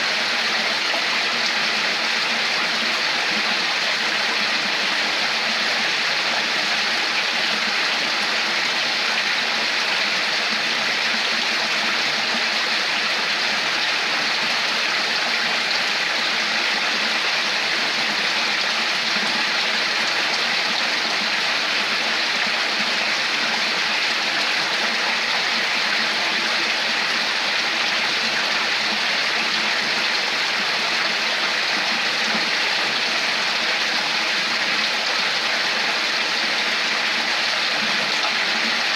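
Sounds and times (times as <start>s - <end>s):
water babbling: 0.0s - 38.9s.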